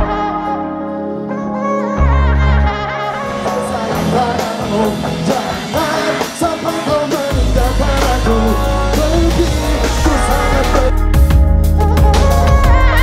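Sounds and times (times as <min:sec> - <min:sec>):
heavy bass: 0:00.0 - 0:00.9, 0:02.0 - 0:13.0
person singing: 0:00.0 - 0:13.0
pop-rock band music: 0:00.0 - 0:13.0.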